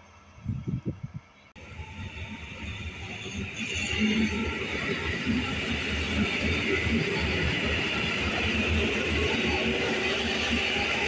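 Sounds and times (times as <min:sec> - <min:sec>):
electric train rumble: 0:00.0 - 0:11.0
wheels hissing on rail: 0:00.0 - 0:11.0.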